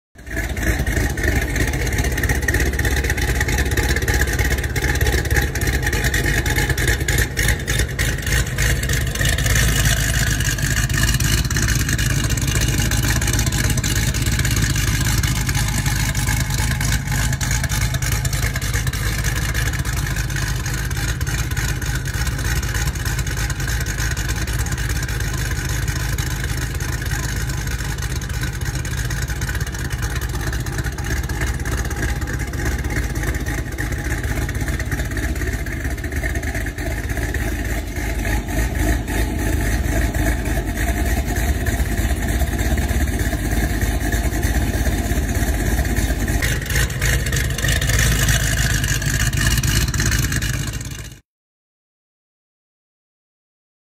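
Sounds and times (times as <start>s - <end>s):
car engine running: 0.2s - 51.2s.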